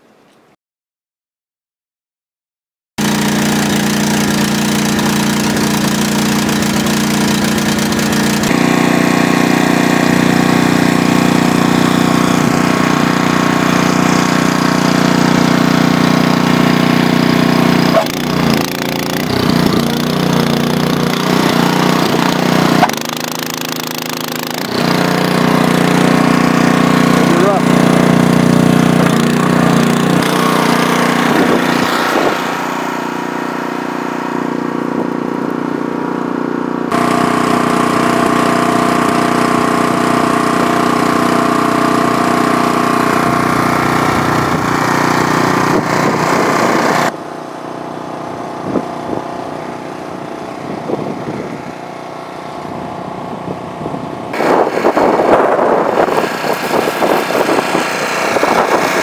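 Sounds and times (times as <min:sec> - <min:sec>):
snowblower engine running: 0:03.0 - 0:59.0.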